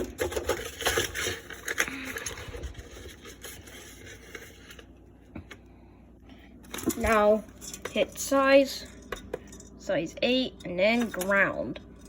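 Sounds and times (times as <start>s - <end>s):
scraping and handling noises: 0.0s - 5.7s, 6.3s - 9.8s, 10.6s - 12.0s.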